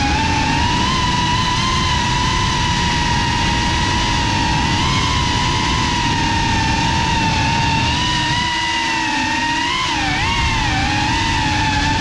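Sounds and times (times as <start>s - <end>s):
drone motors whining: 0.0s - 12.0s
propeller and air rush: 0.0s - 12.0s.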